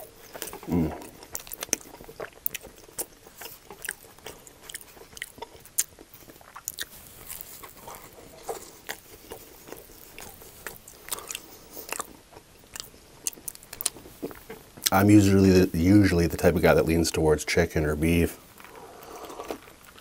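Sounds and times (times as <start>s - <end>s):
chewing and mouth smacks: 0.0s - 15.0s, 18.6s - 20.0s.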